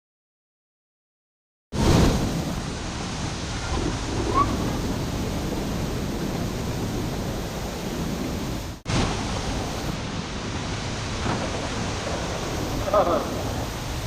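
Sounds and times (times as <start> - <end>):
waterfall rushing: 1.8 - 14.0.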